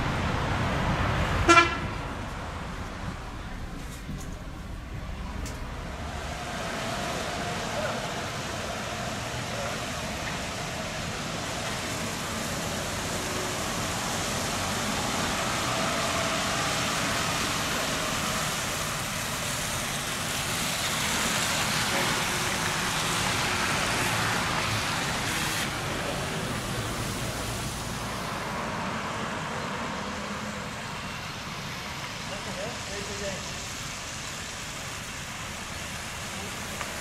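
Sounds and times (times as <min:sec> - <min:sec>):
street traffic: 0:00.0 - 0:37.0
trolleybus passing on wet road: 0:00.0 - 0:37.0.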